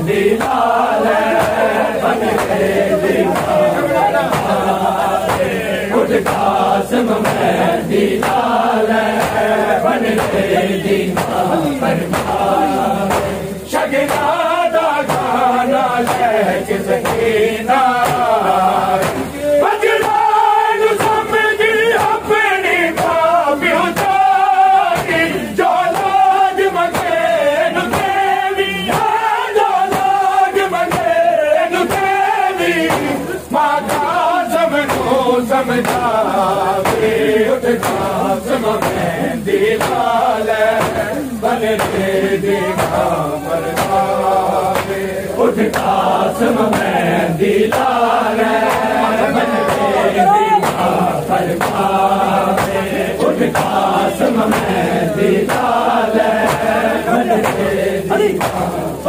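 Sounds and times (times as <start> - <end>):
men chanting in unison: 0.0 - 59.0
chest-beating slaps: 0.1 - 17.4, 18.0 - 20.3, 22.0 - 23.3, 23.9 - 30.2, 30.8 - 31.2, 31.8 - 59.0.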